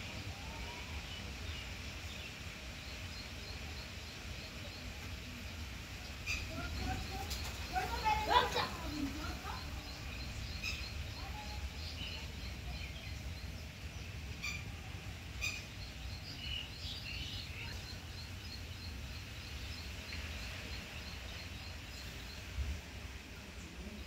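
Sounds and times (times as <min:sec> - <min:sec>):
faint bird chirps: 0:02.9 - 0:22.7.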